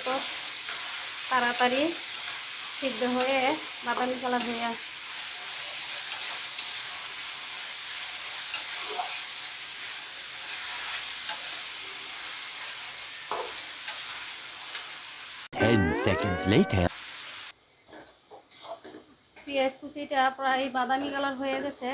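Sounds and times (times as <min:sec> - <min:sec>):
onions sizzling in oil: 0:00.0 - 0:15.6, 0:17.0 - 0:21.9.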